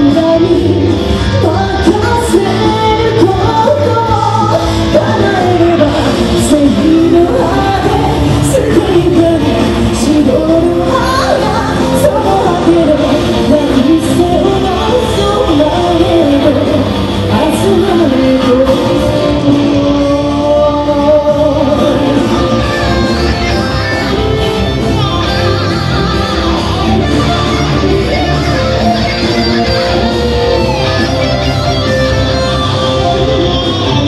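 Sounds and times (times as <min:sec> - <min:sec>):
loud rock music: 0:00.0 - 0:34.0
person singing: 0:00.0 - 0:34.0.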